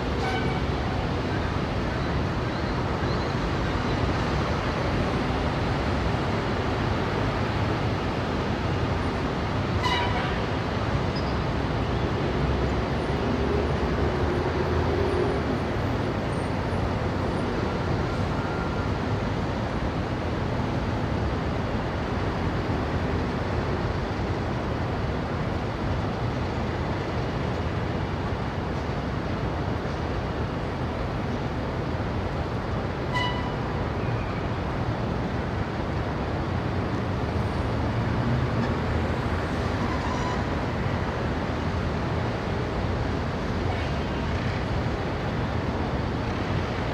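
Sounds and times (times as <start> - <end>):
city street traffic rumble: 0.0 - 46.9.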